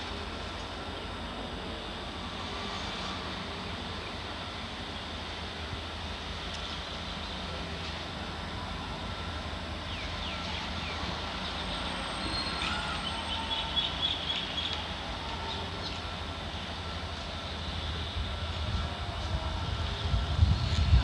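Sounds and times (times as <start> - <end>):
distant diesel locomotive rumble: 0.0 - 21.0.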